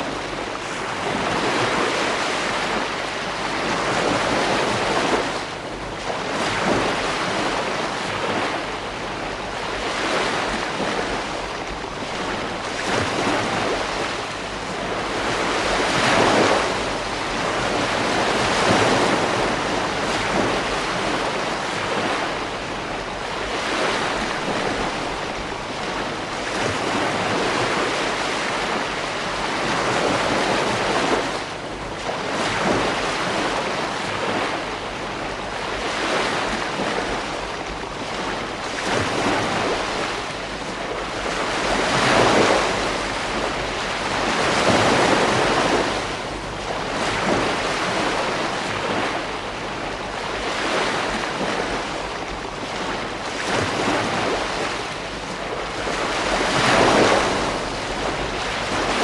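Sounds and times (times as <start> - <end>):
ocean waves breaking on beach: 0.0 - 59.0
wind on microphone: 0.0 - 59.0.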